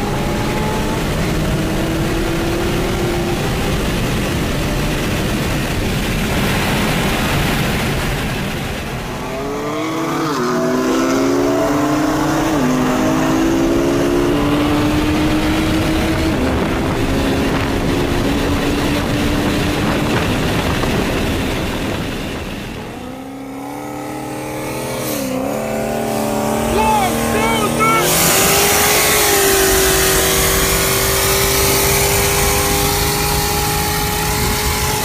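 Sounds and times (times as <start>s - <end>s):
another engine accelerating hard: 0.0s - 35.0s
car engine at full throttle: 0.0s - 35.0s.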